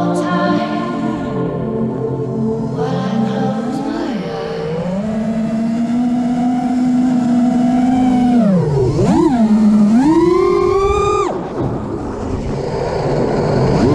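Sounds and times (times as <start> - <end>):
drone motors whining: 1.7 - 13.9.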